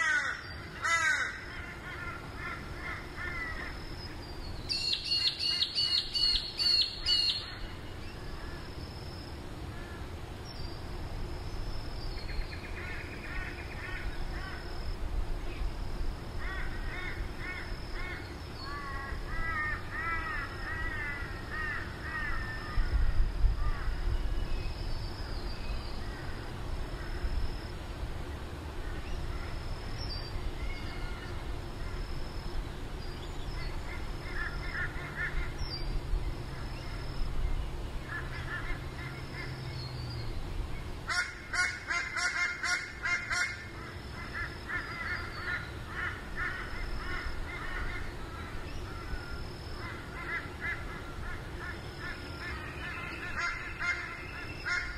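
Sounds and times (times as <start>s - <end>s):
birds harsh calls: 0.0s - 8.8s, 9.6s - 15.7s, 16.4s - 27.4s, 28.7s - 54.9s.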